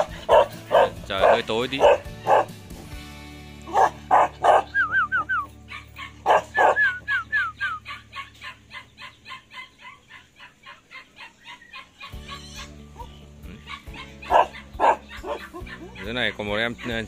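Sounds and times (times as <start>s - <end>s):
dog barking: 0.0s - 2.6s, 3.7s - 4.8s, 5.7s - 7.0s, 7.8s - 17.0s.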